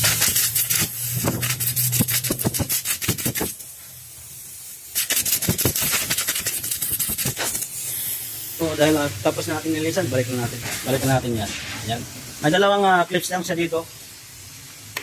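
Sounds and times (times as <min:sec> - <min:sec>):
compressed air blow gun hissing: 0:00.0 - 0:14.5.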